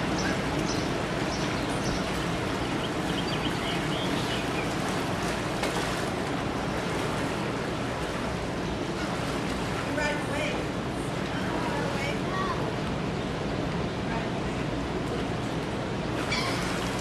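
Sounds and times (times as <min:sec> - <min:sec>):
distant ocean surf: 0:00.0 - 0:17.0
wind: 0:00.0 - 0:17.0.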